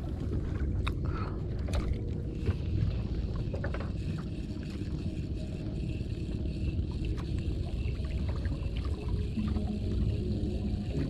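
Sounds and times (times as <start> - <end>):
choppy water around boat: 0.0 - 11.0.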